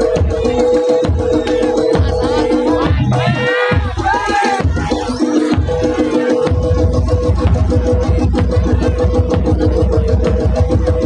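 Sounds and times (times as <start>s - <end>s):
drums beating fast rhythm: 0.0s - 11.0s
loud dance music: 0.0s - 11.0s.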